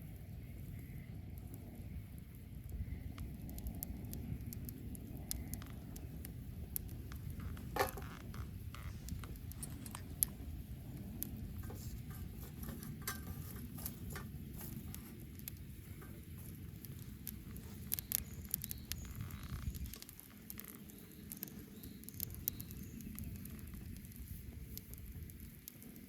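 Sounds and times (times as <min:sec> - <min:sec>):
rumble of bonfire flames: 0:00.0 - 0:26.0
wood crackling and popping: 0:00.0 - 0:26.0.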